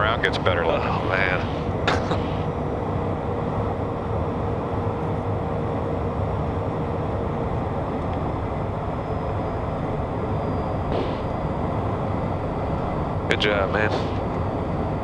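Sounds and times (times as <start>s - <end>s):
jet engines and airflow rushing: 0.0s - 15.0s.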